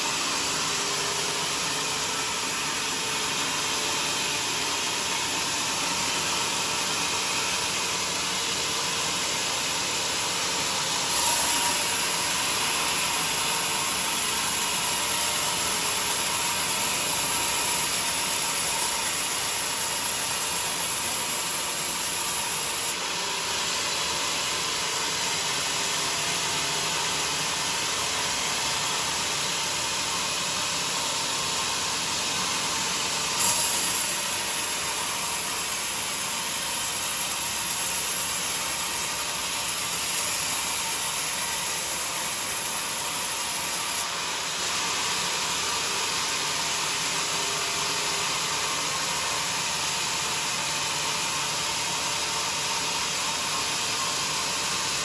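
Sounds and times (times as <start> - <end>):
sawmill running: 0.0 - 55.0.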